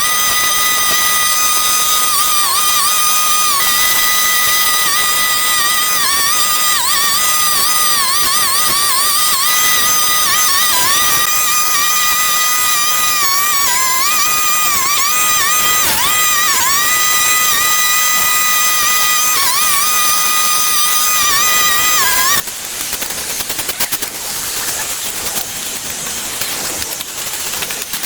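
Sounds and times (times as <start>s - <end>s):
small engine whining at high revs: 0.0s - 23.9s
rapid rattling crackle: 0.0s - 28.0s.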